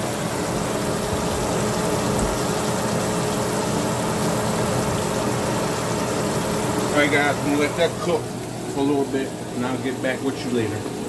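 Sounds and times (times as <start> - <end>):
chicken sizzling in hot oil: 0.0 - 10.5.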